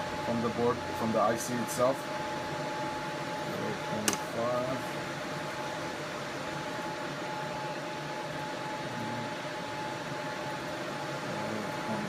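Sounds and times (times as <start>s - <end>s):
faint high whine: 0.0s - 12.0s
fan whirring hum: 0.0s - 12.0s.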